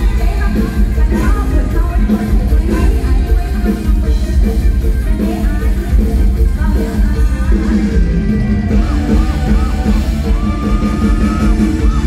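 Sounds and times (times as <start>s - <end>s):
live band music through speakers: 0.0s - 12.0s.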